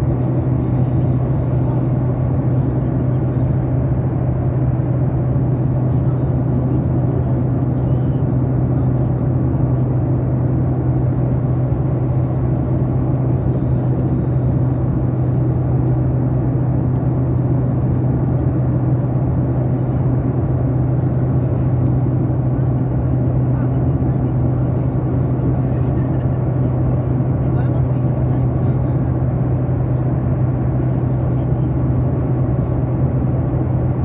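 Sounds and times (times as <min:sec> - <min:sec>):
airliner cabin drone: 0:00.0 - 0:34.0.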